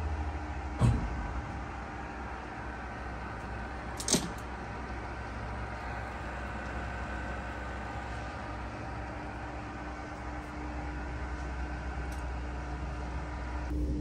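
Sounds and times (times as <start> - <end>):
milling machine humming: 0.0 - 14.0.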